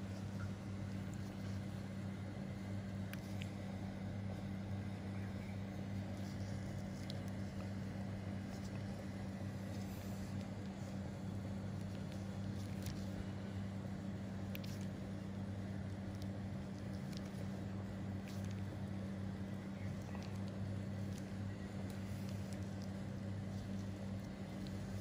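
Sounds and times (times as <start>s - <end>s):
steady low machine hum: 0.0s - 25.0s.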